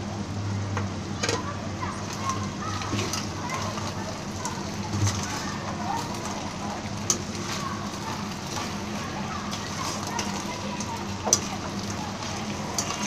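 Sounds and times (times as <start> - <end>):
sauce sizzling in pan: 1.8 - 13.0.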